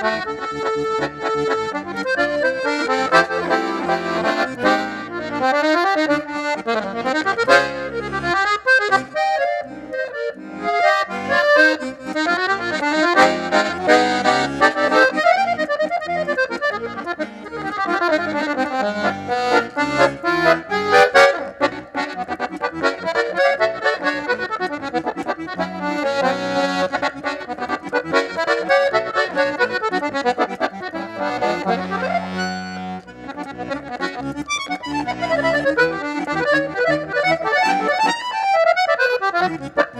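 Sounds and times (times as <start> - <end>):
accordion playing lively tune: 0.0 - 39.9.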